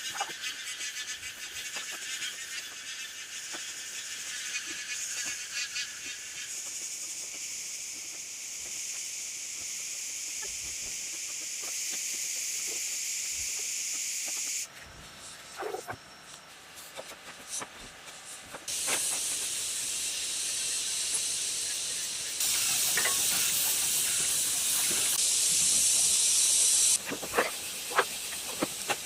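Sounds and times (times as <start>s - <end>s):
high-pitched fluttering hiss: 0.0s - 29.0s.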